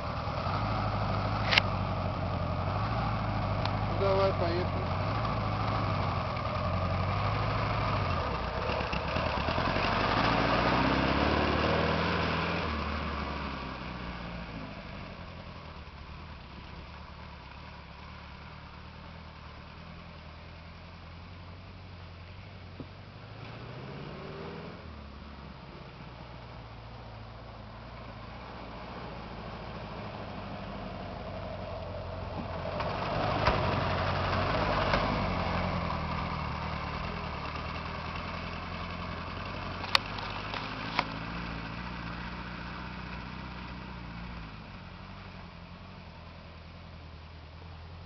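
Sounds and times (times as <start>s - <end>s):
car engine driving by: 0.0s - 48.0s
low engine hum: 0.0s - 48.0s.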